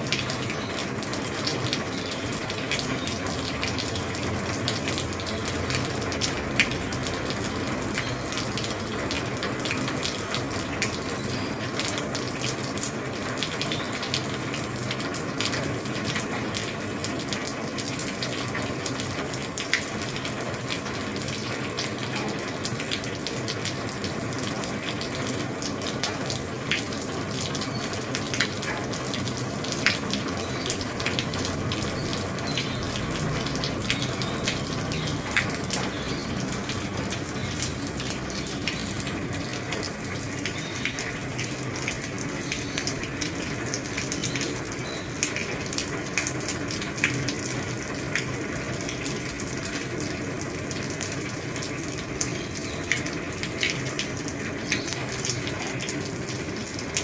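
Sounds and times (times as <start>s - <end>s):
rain hissing on roof: 0.0s - 57.0s.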